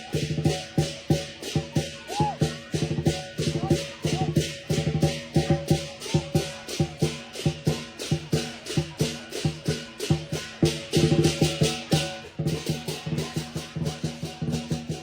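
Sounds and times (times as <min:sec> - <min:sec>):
cymbals clashing: 0:00.0 - 0:15.0
large drum beating: 0:00.0 - 0:15.0.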